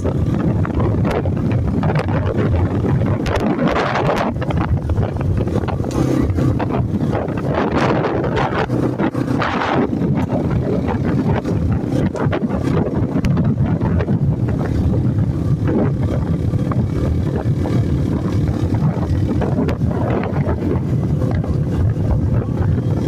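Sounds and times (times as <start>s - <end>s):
steady low rumble: 0.0s - 23.0s
wind buffeting microphone: 0.0s - 23.0s.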